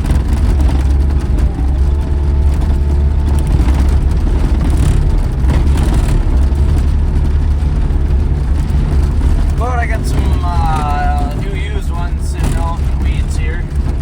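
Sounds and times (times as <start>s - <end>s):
skid loader engine running: 0.0s - 14.0s.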